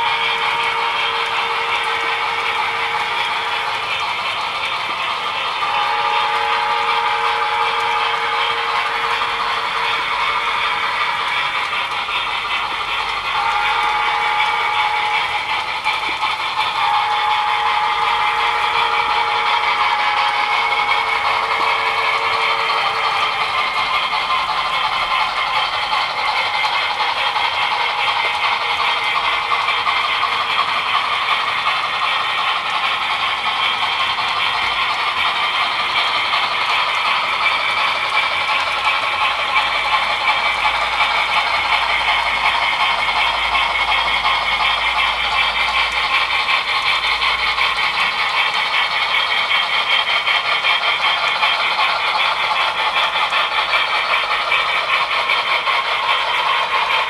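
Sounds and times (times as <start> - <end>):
model train wheels clattering on rails: 0.0 - 57.0.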